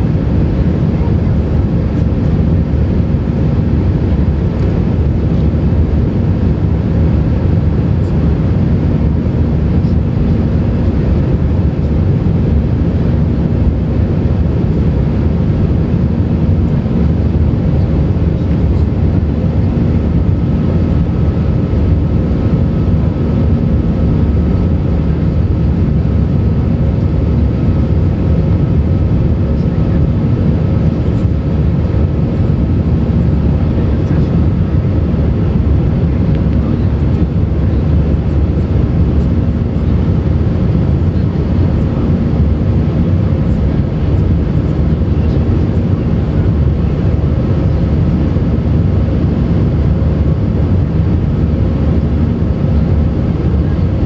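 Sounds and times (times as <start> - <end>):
jet engine drone in cabin: 0.0 - 54.0.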